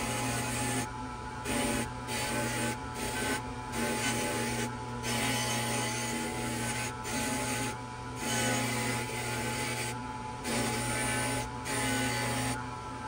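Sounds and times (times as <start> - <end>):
grinder motor hum: 0.0 - 13.0.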